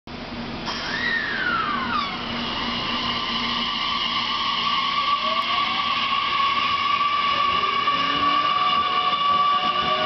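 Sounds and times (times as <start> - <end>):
electric train inverter whine: 0.1 - 10.0.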